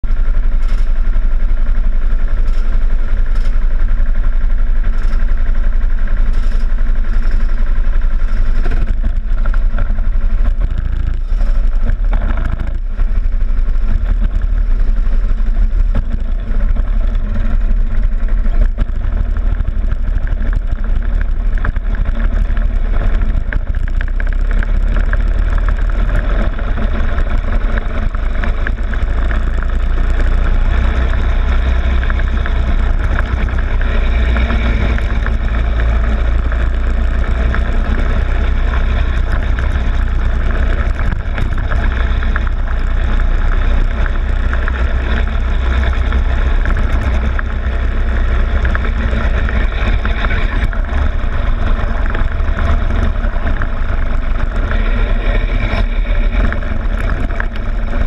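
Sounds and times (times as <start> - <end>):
go-kart accelerating: 0.0 - 58.0
go-kart engines running: 0.0 - 58.0.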